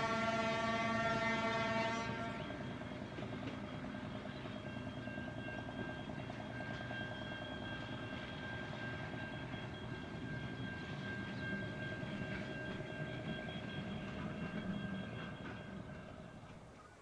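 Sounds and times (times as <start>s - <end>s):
railcar engine drone: 0.0s - 17.0s.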